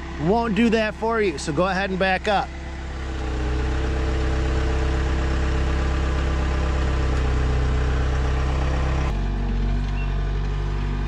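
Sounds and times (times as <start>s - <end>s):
track loader diesel engine: 0.0s - 11.0s.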